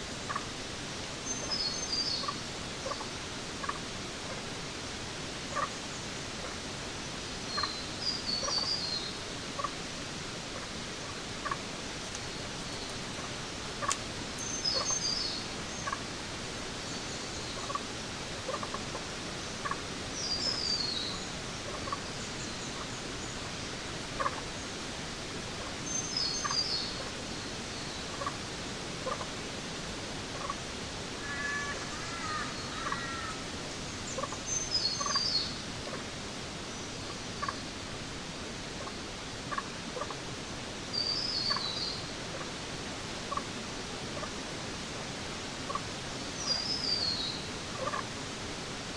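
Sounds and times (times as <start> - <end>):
steady hiss: 0.0 - 48.9.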